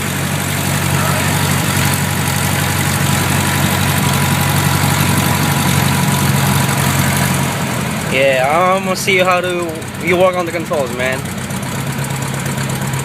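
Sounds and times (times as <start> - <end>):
light aircraft engine and propeller: 0.0 - 13.0.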